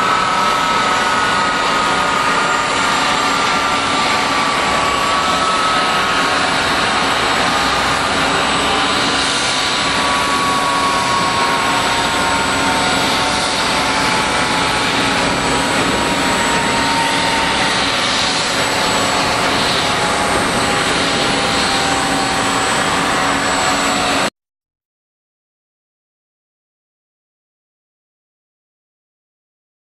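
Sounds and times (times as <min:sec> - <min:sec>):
jet turbine rush and whine: 0:00.0 - 0:24.3.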